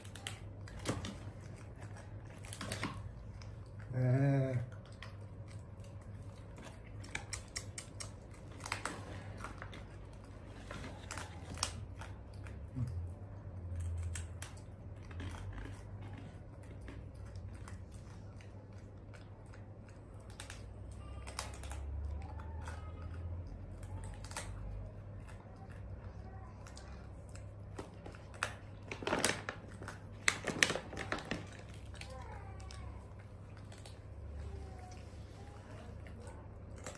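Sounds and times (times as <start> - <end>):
low steady hum: 0.0 - 36.9
monkey chewing dried banana: 0.0 - 36.9.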